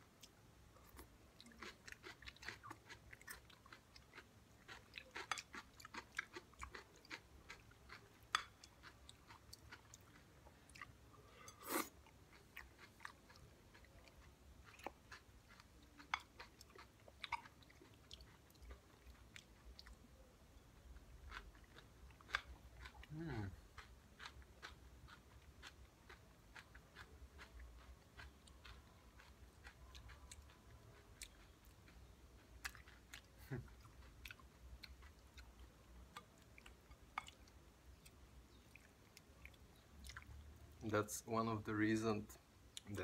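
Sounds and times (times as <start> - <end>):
chewing crunchy salad: 0.1 - 41.3.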